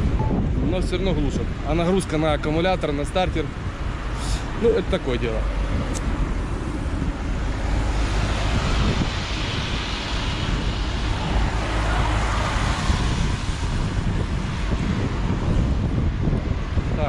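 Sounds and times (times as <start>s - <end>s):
car driving in traffic: 0.0s - 17.0s
rush of noise: 0.0s - 17.0s.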